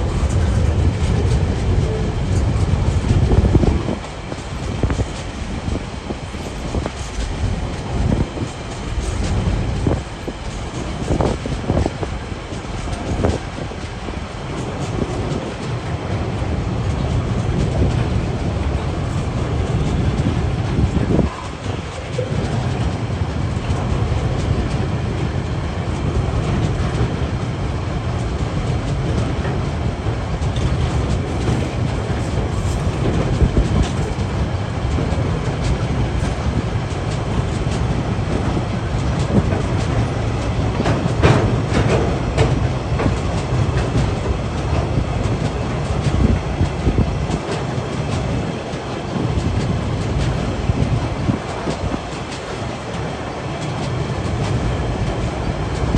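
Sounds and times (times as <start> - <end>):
freight train rumbling past: 0.0 - 55.9
train wheels clacking over rail joints: 0.0 - 55.9.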